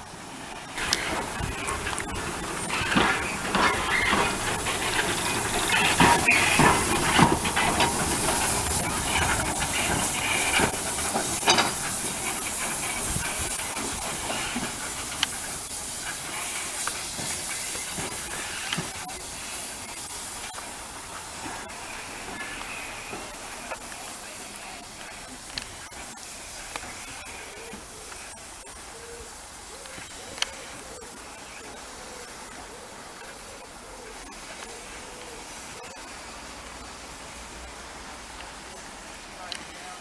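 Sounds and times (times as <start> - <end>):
steam locomotive hissing: 0.0 - 40.0.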